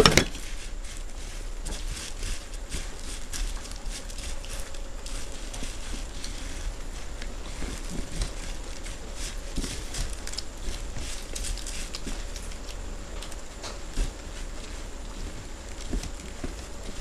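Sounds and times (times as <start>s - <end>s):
crunchy chewing: 0.0s - 17.0s
puffed rice crackling and rustling: 0.0s - 17.0s.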